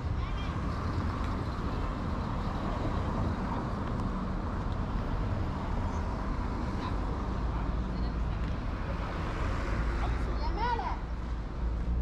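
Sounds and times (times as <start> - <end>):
city street traffic noise: 0.0 - 12.0.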